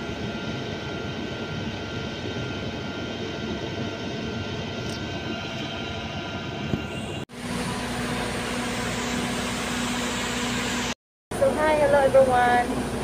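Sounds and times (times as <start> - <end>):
outdoor background hum: 0.0 - 13.0.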